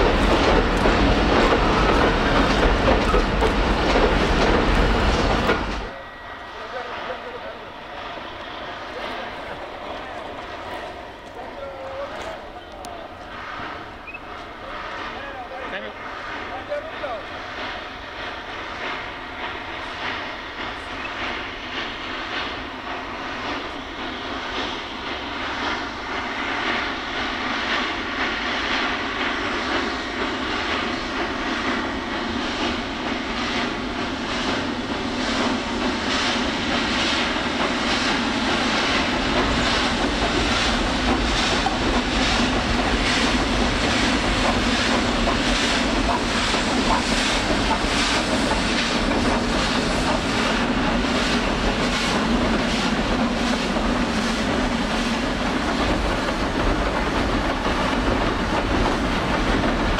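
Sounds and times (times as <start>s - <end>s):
steam locomotive exhaust beating: 0.0s - 59.9s
train rumbling over steel bridge: 0.0s - 59.9s.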